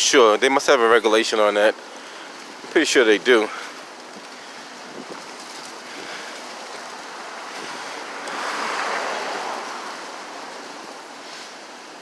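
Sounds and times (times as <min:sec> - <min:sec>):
strong wind buffeting microphone: 0:02.4 - 0:12.0.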